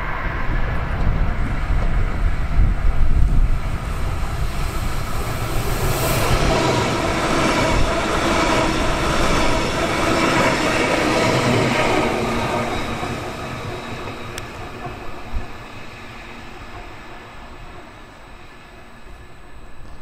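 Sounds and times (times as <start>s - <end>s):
rush of air: 0.0s - 16.5s
train wheels on rails: 0.0s - 20.0s.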